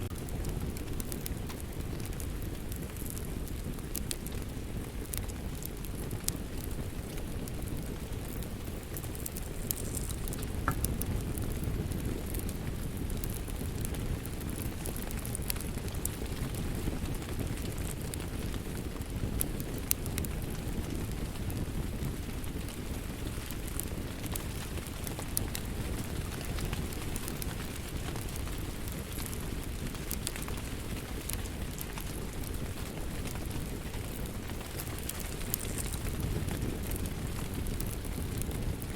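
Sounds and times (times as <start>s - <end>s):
rain on a roof: 0.0s - 38.9s
wood fire crackling: 0.0s - 38.9s.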